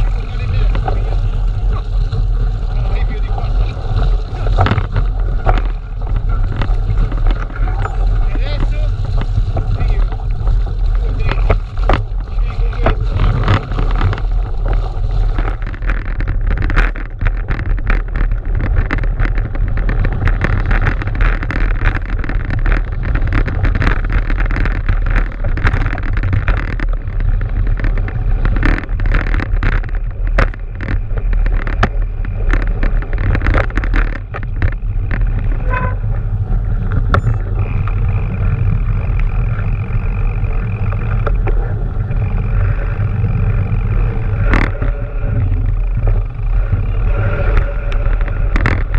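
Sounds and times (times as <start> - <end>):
bike knocks and rattles: 0.0 - 48.9
tyres rumbling on snow: 0.0 - 48.9
wind buffeting microphone: 0.0 - 48.9.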